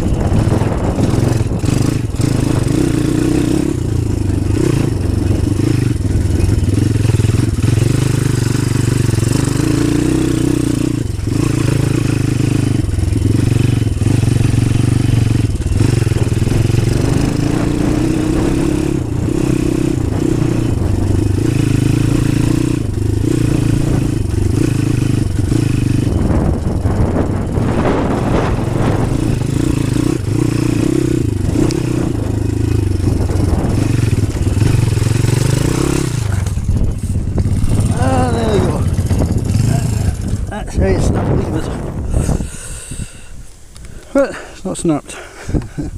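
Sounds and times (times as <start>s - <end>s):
motorbike engine revving: 0.0s - 43.4s.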